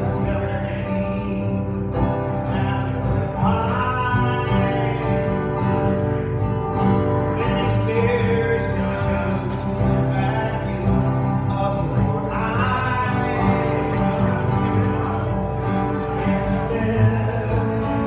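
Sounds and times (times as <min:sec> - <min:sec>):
man singing: 0:00.0 - 0:06.0, 0:07.2 - 0:18.0
acoustic guitar strumming: 0:00.0 - 0:18.0.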